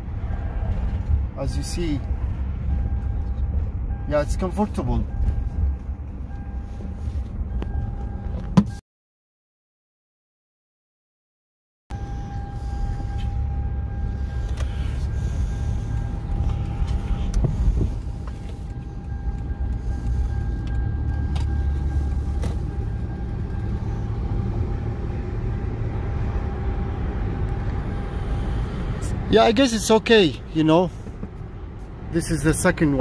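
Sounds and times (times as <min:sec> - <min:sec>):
engine and tyre rumble: 0:00.0 - 0:08.8, 0:11.9 - 0:33.0.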